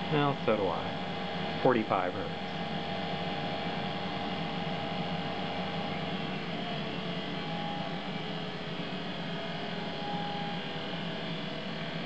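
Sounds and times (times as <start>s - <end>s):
centrifuge motor humming: 0.0s - 12.0s.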